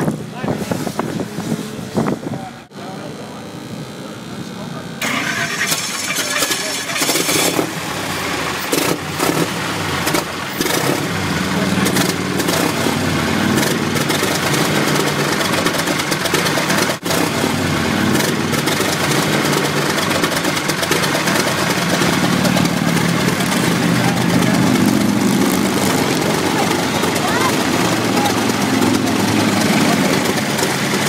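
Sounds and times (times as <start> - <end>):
engine running at low revs: 0.0 - 31.0.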